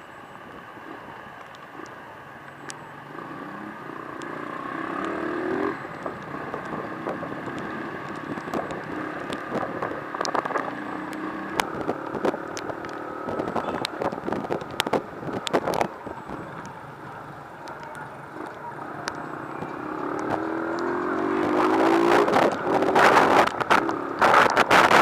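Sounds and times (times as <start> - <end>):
vehicle engine: 0.0 - 25.0.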